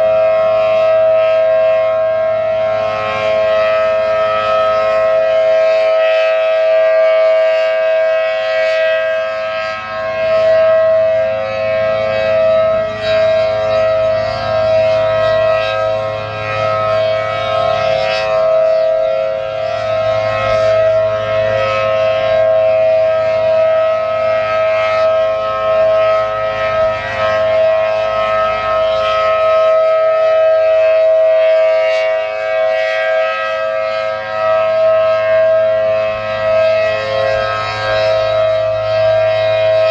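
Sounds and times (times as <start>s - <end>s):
warning siren two-note chord: 0.0s - 39.9s.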